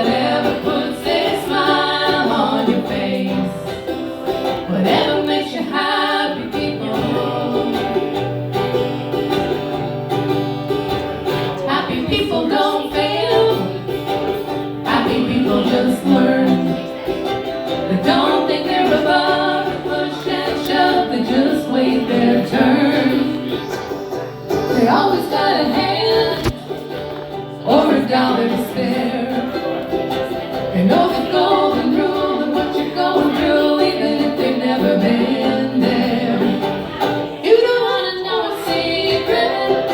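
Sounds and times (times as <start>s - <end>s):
acoustic strings plucked and strummed: 0.0s - 39.9s
voices singing country song: 0.0s - 39.9s.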